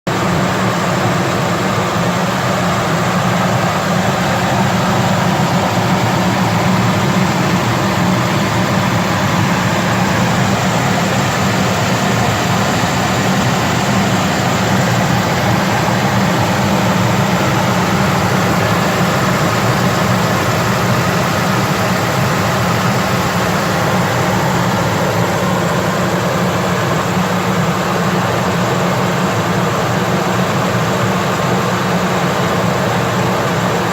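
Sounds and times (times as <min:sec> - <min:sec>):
car engine low drone: 0:00.1 - 0:33.9.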